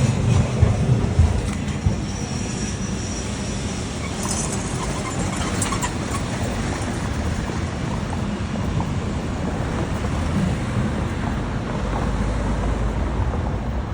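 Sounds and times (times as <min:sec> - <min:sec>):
tram rumbling on rails: 0:00.0 - 0:13.9.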